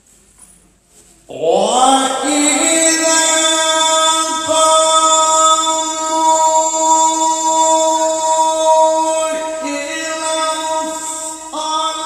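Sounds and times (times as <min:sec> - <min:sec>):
man reciting melodically: 0:01.3 - 0:12.0.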